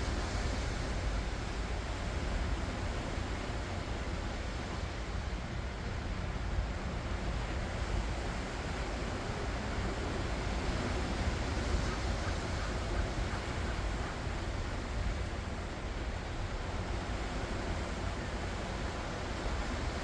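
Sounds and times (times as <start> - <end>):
ocean waves washing ashore: 0.0 - 20.0.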